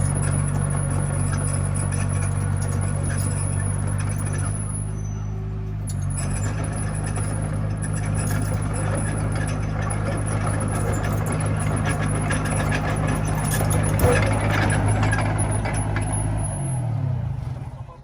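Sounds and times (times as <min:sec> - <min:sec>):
machinery rattle: 0:00.0 - 0:17.9
diesel engine running: 0:00.0 - 0:18.0.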